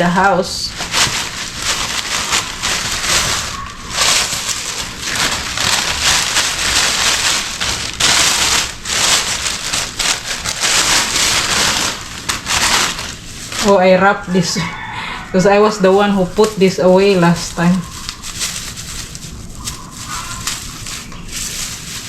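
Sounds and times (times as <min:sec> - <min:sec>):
plastic wrapping crinkling: 0:00.0 - 0:22.0.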